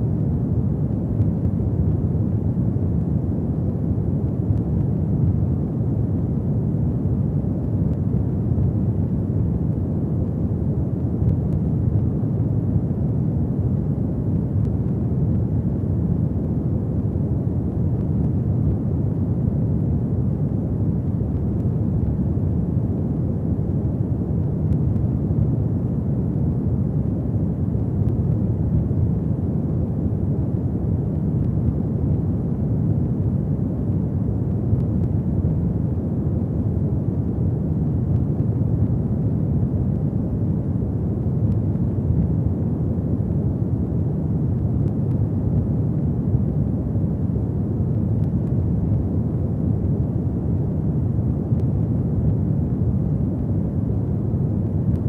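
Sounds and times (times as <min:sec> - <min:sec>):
faint fire crackles: 0:00.0 - 0:55.0.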